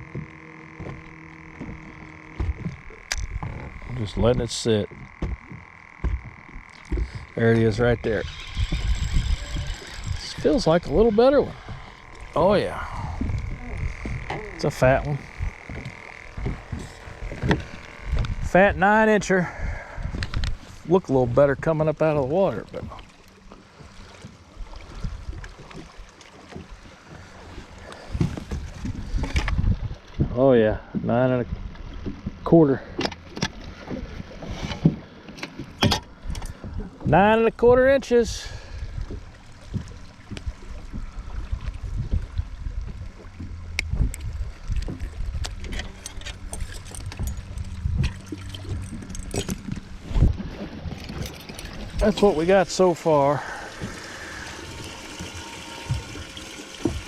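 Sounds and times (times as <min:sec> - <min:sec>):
small knocks and taps in boat: 0:00.0 - 0:07.7, 0:09.6 - 0:19.1, 0:20.0 - 0:38.2, 0:38.8 - 0:52.8, 0:53.5 - 0:57.0
wind rumbling on microphone: 0:00.0 - 0:21.7, 0:24.6 - 0:25.9, 0:27.2 - 0:32.4, 0:35.8 - 0:57.0.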